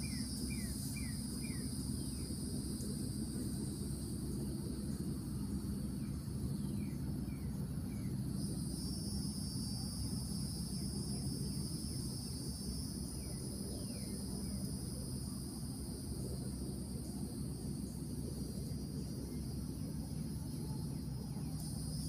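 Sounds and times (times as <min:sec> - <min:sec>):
insects trilling: 0:00.0 - 0:22.0
low steady hum: 0:00.0 - 0:22.0.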